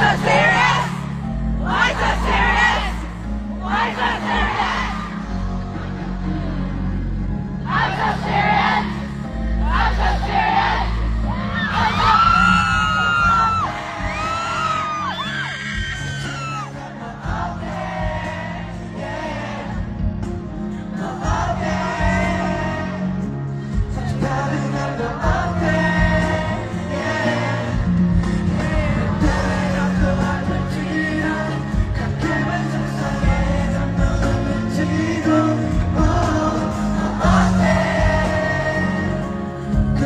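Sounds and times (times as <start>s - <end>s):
bass-heavy backing track: 0.0s - 40.0s.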